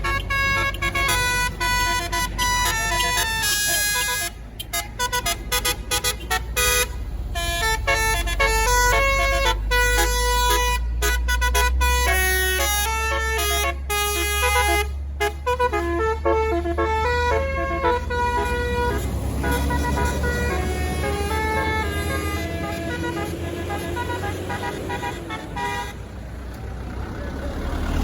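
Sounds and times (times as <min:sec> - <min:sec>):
bus multi-tone horn melody: 0:00.0 - 0:26.6
bus engine rumbling: 0:00.0 - 0:28.0.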